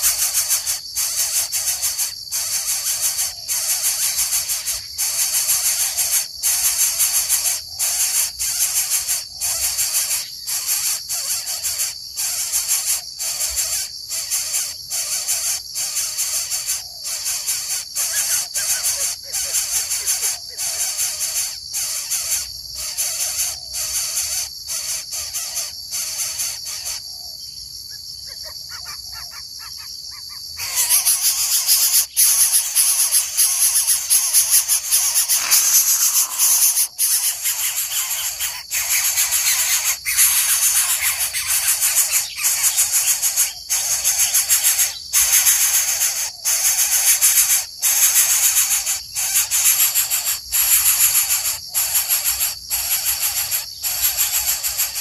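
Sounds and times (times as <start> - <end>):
coucal harsh hissing rasps: 0.0 - 27.2, 28.4 - 55.0.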